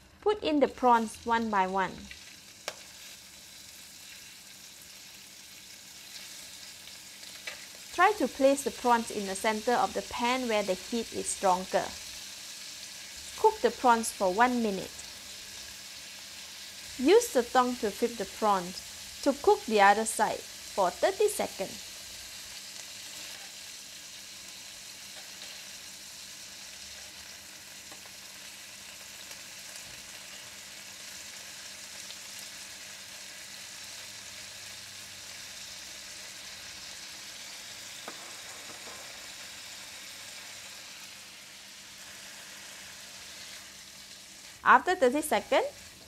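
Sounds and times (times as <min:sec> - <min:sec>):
prawns sizzling in hot oil: 0:00.0 - 0:46.0.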